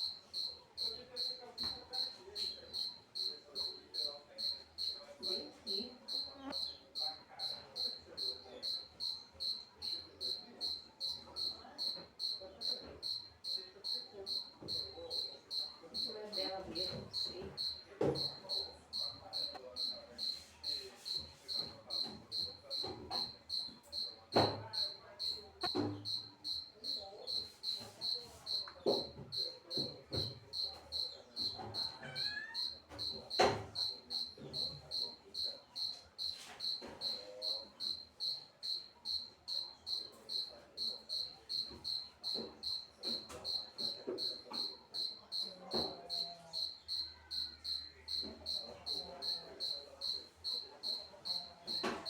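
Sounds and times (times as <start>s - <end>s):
cricket chirping: 0.0s - 52.0s.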